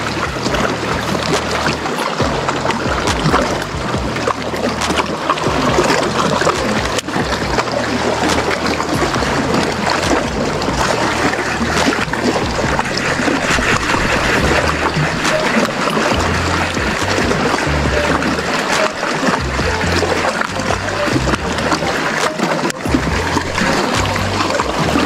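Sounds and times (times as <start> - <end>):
motorboat engine hum: 0.0 - 25.0
rushing wind and water: 0.0 - 25.0
water splashes: 0.0 - 25.0.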